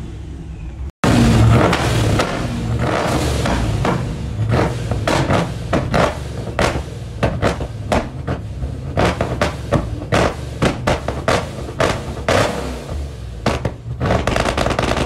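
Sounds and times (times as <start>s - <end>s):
car engine running low: 0.0s - 15.0s
car exhaust popping and banging: 1.0s - 15.0s.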